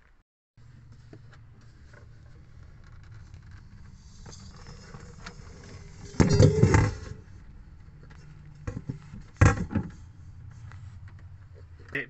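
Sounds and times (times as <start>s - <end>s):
low steady hum: 0.6s - 12.0s.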